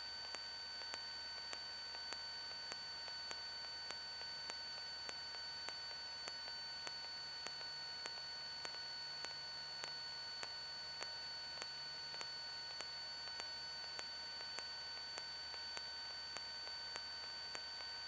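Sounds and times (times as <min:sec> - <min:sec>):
electrical hiss with high whines: 0:00.0 - 0:18.0.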